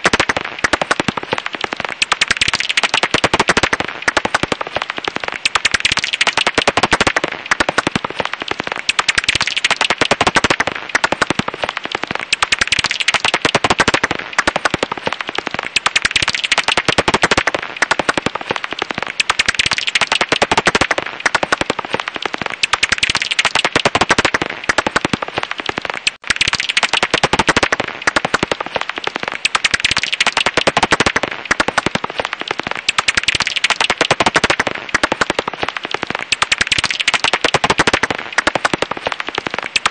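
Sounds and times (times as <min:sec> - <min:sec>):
bat echolocation clicks: 0:00.0 - 0:39.9.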